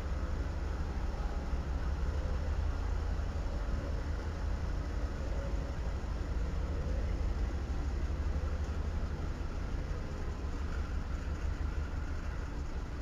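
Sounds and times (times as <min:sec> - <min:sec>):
diesel locomotives rumbling: 0:00.0 - 0:13.0.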